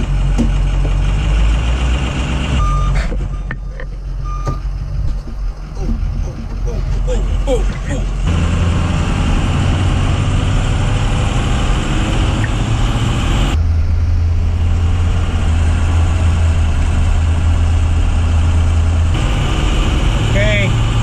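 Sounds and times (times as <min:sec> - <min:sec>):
bus engine drone: 0:00.0 - 0:21.0
road noise: 0:00.0 - 0:21.0.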